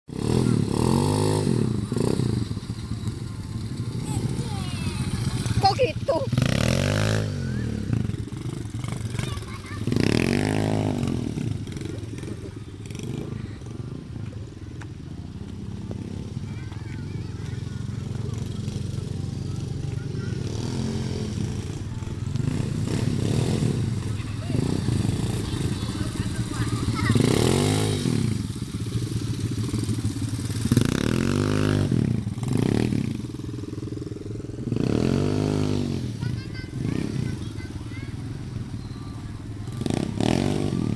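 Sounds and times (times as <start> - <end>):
engine revving and rumbling: 0.1 - 14.1, 17.4 - 40.9.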